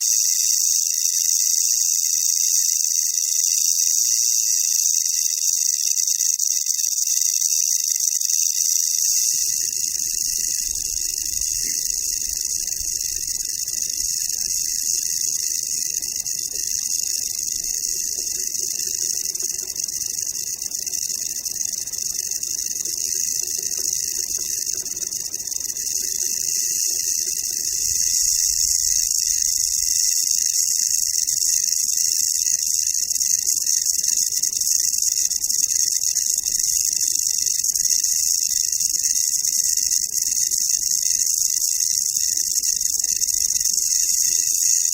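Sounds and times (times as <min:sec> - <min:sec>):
rattlesnake rattling: 0:00.0 - 0:44.9.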